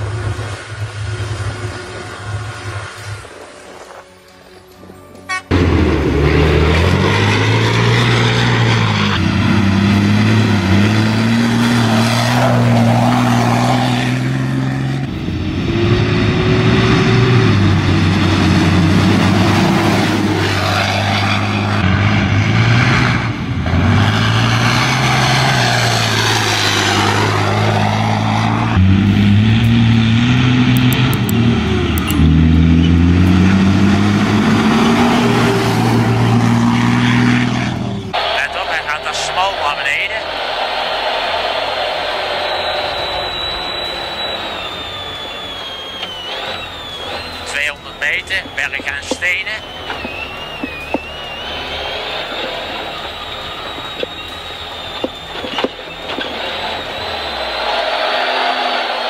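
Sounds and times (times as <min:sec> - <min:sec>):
diesel truck engines revving: 0:00.0 - 0:59.0.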